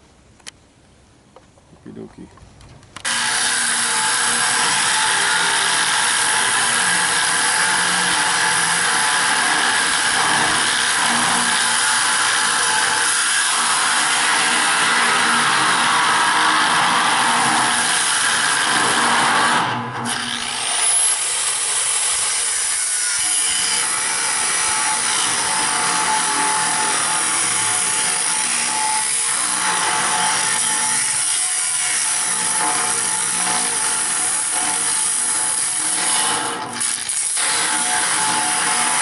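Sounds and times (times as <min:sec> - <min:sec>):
power tool cutting steel: 0:03.0 - 0:39.0.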